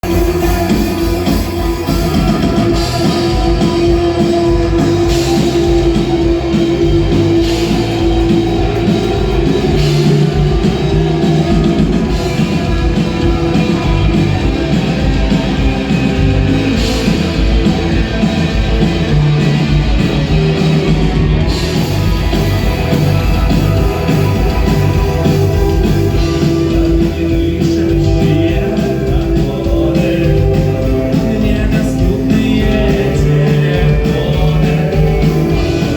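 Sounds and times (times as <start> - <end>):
person singing: 0.0 - 18.2, 23.4 - 35.9
drum kit: 0.0 - 35.9
electric guitar: 0.0 - 35.9.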